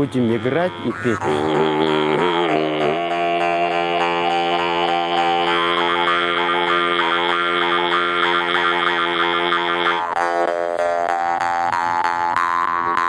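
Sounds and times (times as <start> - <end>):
throat singing: 0.0 - 13.0.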